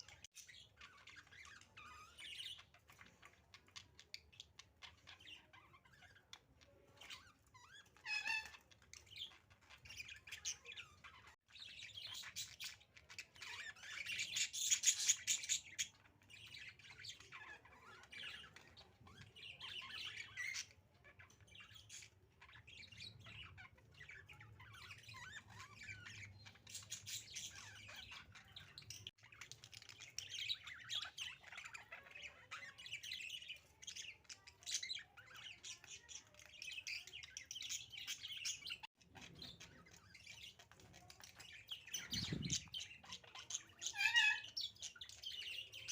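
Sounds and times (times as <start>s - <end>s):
budgerigars chattering and chirping: 0.0s - 45.9s.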